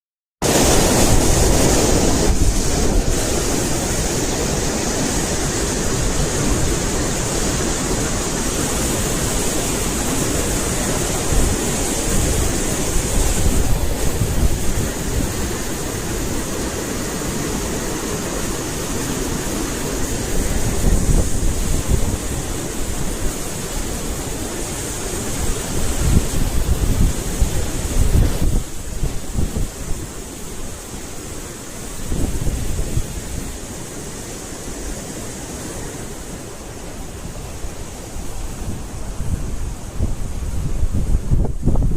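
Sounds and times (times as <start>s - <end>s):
wind buffeting microphone: 0.4s - 30.8s, 31.9s - 33.6s, 35.5s - 41.9s
water rushing over weir: 0.4s - 41.9s.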